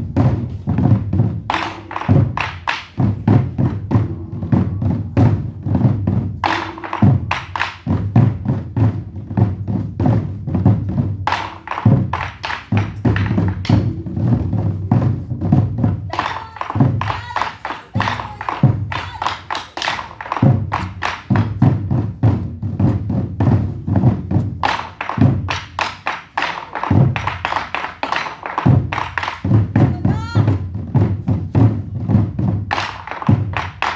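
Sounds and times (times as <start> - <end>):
drum ensemble heavy strikes: 0.0 - 33.9.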